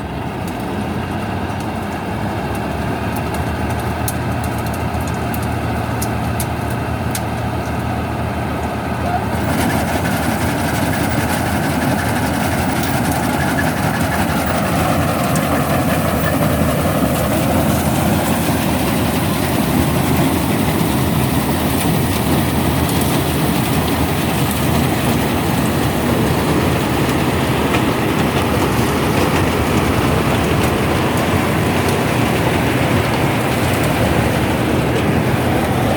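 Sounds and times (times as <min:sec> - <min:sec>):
harvesting machine running: 0:00.0 - 0:35.9.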